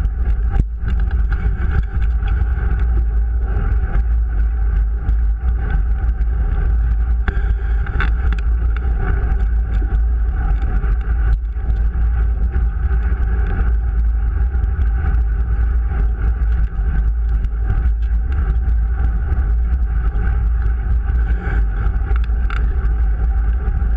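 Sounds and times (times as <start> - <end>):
wind and riding vibration: 0.0 - 23.9.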